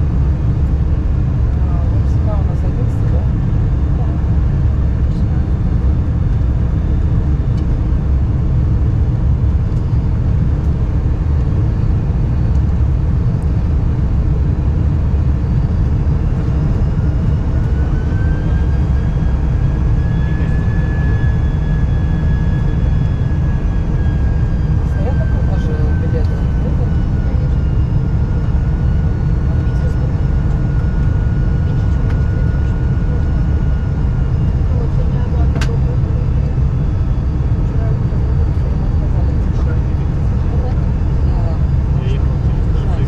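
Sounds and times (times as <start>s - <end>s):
airliner cabin rumble: 0.0s - 43.0s.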